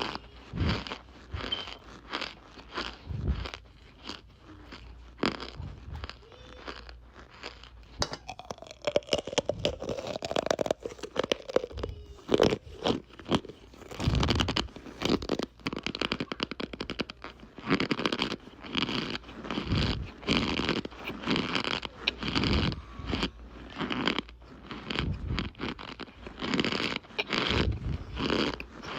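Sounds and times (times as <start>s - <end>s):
cornstarch crunching and squeaking: 0.0s - 28.9s.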